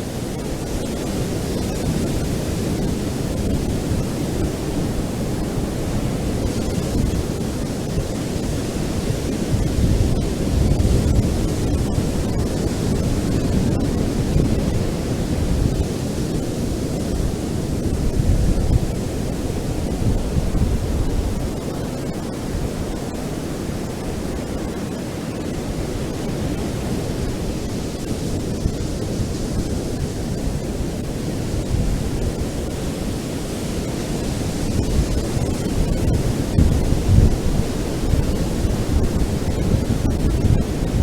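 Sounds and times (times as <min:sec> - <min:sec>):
ocean waves rumbling: 0:00.0 - 0:41.0.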